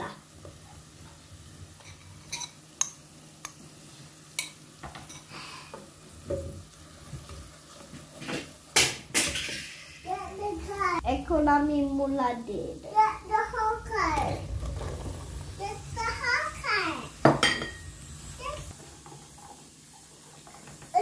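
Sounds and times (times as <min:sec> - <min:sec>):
oil sizzling: 0:00.0 - 0:21.0.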